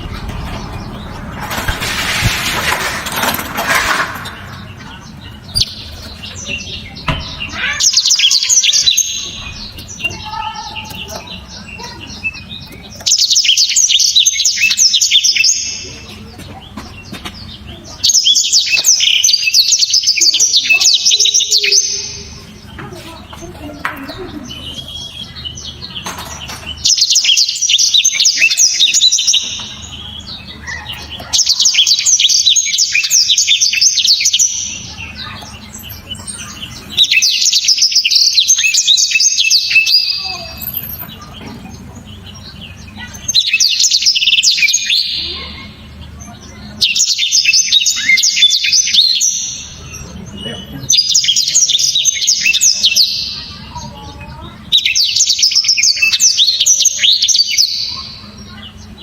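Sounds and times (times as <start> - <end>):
canary singing high chattering notes: 0.0 - 59.0.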